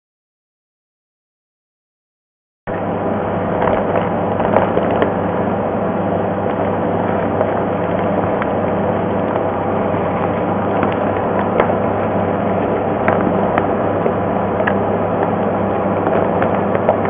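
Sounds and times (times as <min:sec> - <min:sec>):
ventilation hum and air noise: 0:02.7 - 0:17.0.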